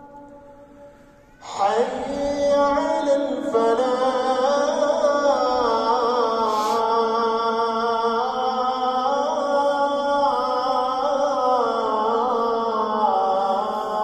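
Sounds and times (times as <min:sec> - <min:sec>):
person chanting recitation: 0:00.0 - 0:14.0.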